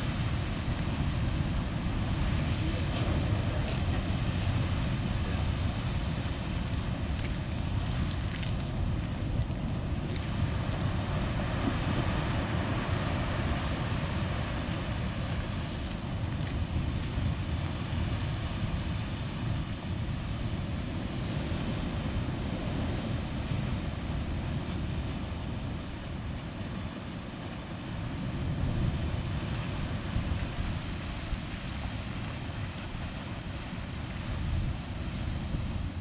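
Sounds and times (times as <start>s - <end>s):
ocean surf roar: 0.0s - 36.0s
wind on microphone: 0.0s - 36.0s.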